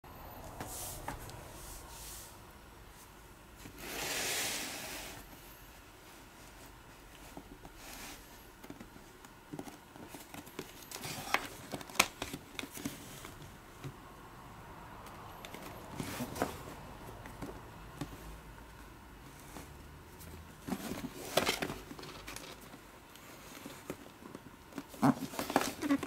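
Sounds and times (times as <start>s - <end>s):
hands handling cardboard box: 3.6s - 14.0s, 15.2s - 26.0s.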